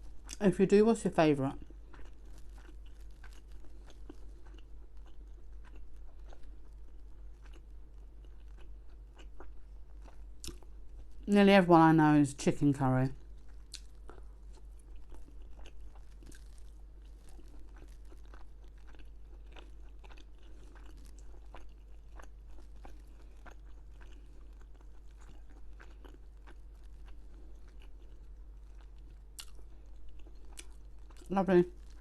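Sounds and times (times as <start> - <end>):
person chewing and crunching food: 0.0 - 0.4, 1.4 - 11.3, 13.0 - 32.0.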